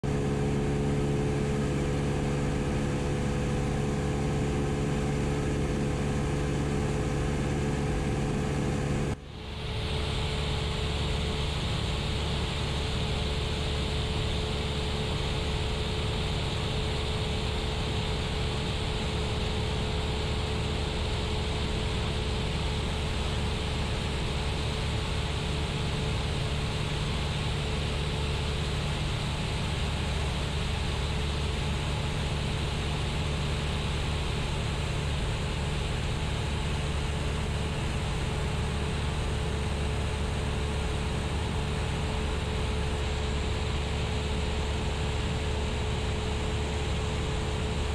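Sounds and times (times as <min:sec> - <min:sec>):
propeller plane engine droning: 0:00.0 - 0:47.9.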